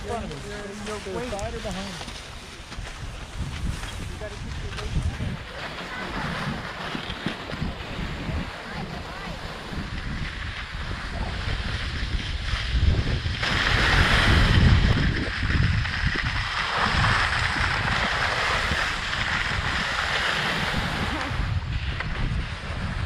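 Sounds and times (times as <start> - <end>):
skis hissing on packed snow: 0.0 - 23.0
wind buffeting microphone: 0.0 - 23.0.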